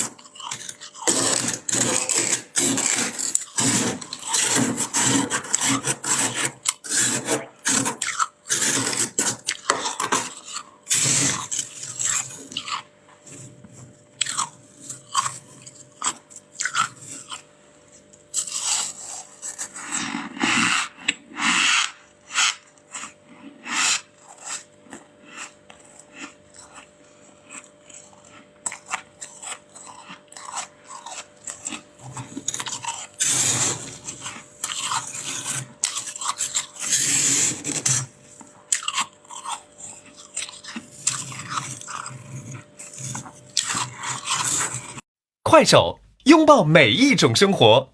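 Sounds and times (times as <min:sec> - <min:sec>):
frost crunching between teeth: 0:00.0 - 0:13.5, 0:14.2 - 0:45.0.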